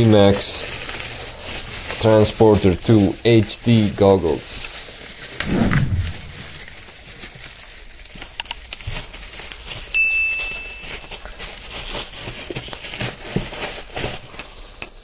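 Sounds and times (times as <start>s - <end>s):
plastic bag and bubble wrap crinkling: 0.0s - 5.4s, 6.2s - 15.0s.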